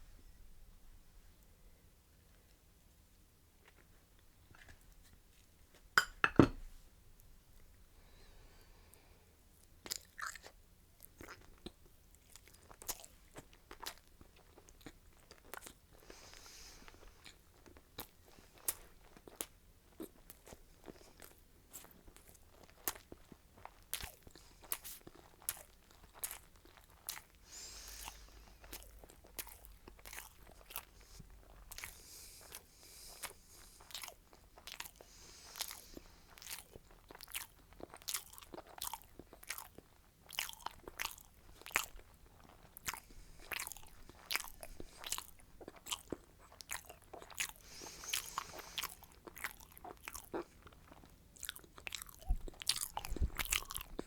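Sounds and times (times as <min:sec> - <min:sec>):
crunchy food chewing: 0:09.8 - 0:54.0.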